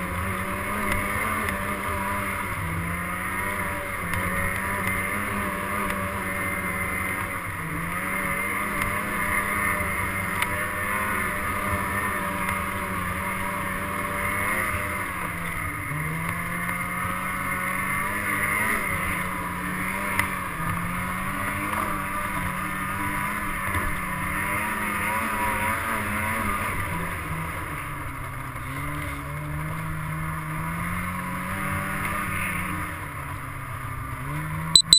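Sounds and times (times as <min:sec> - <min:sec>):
small vehicle engine revving: 0:00.0 - 0:34.7.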